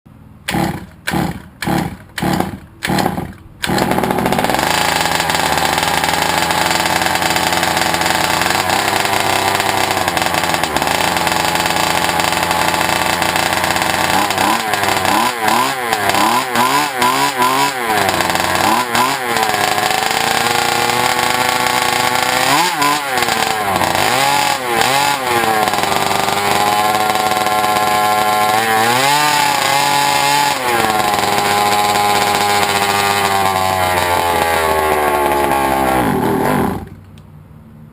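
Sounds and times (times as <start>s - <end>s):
two-stroke engine starting and revving: 0.4s - 37.2s.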